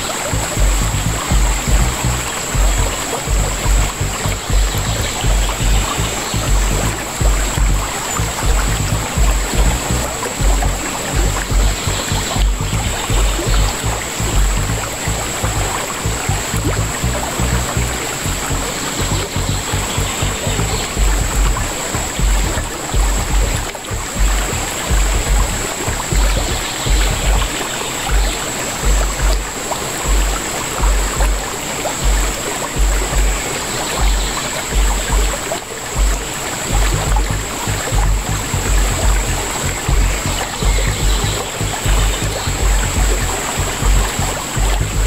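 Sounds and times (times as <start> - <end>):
music with prominent bass line: 0.0 - 45.0
river water rushing: 0.0 - 45.0.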